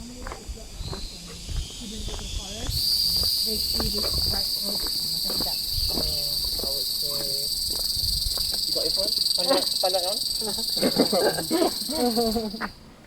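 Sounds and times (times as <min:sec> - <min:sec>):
shrill insect drone: 0:00.2 - 0:12.7.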